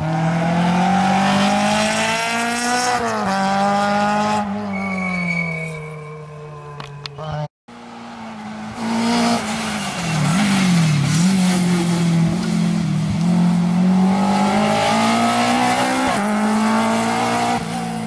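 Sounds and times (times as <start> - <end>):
rally car engine revving: 0.0 - 4.8, 7.7 - 18.0.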